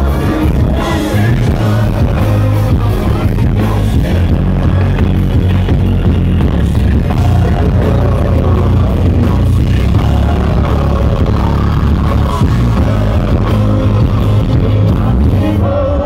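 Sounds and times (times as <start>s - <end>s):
booming bass: 0.0s - 16.0s
live band through loudspeakers: 0.0s - 16.0s.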